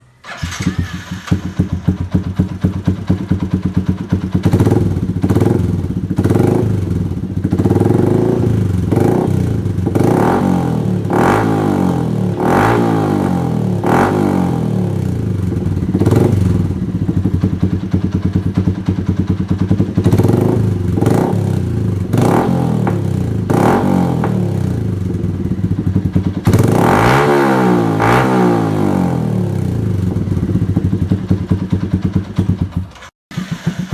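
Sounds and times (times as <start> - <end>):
motorcycle engine revving: 0.2 - 33.9.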